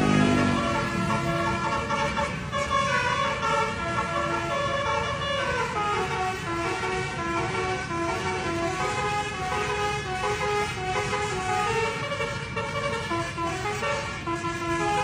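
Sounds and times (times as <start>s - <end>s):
multi-tone bus air horn tune: 0.0s - 15.0s.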